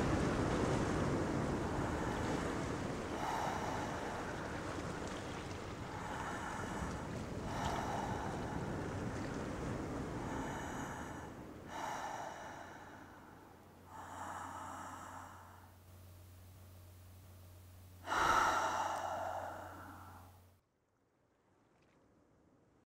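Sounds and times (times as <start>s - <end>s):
sea waves washing in: 0.0s - 20.4s.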